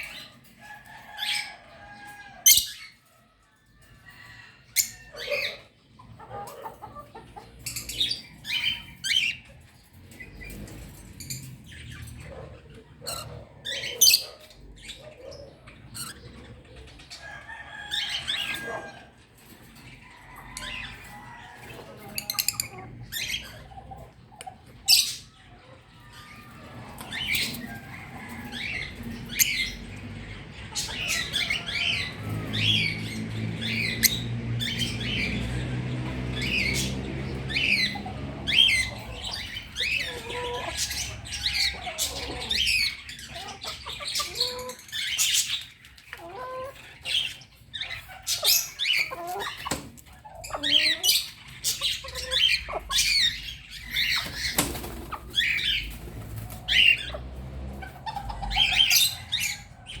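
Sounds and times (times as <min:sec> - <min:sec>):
flock of birds squawking: 0:00.0 - 1:00.0.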